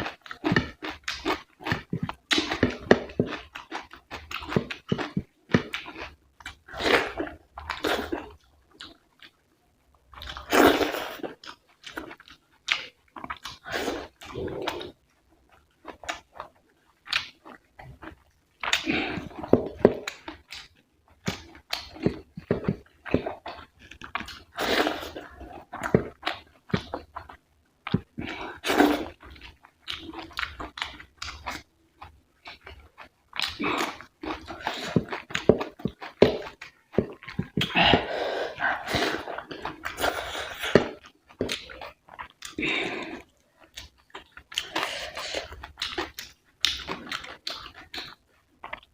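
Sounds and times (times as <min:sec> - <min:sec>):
close chewing and mouth sounds: 0:00.0 - 0:48.9.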